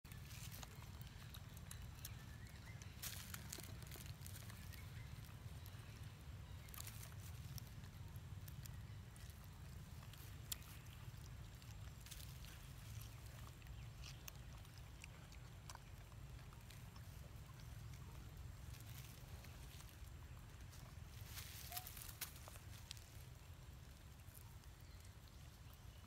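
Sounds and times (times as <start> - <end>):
small clicks and rustles: 0.1 - 25.8.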